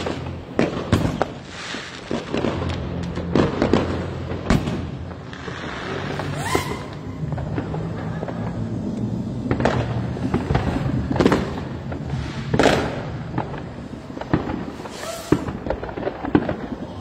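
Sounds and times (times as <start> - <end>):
fireworks bangs: 0.0 - 17.0
fireworks crackling: 0.0 - 17.0
fireworks sharp cracks: 0.0 - 17.0.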